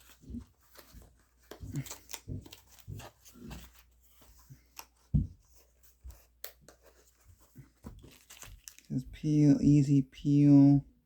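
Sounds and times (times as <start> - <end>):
packaging rustling: 0.0 - 9.0.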